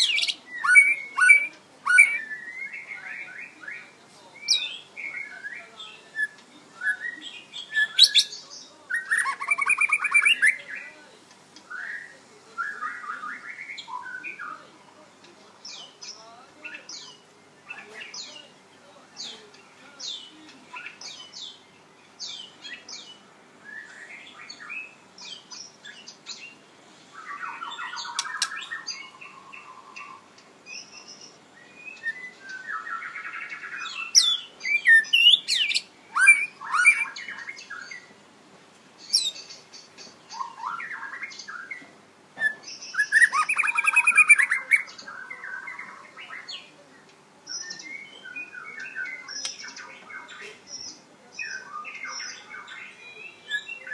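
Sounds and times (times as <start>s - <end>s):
bird chirping and warbling: 0.0s - 11.0s, 11.7s - 38.2s, 39.0s - 46.8s, 47.5s - 53.9s.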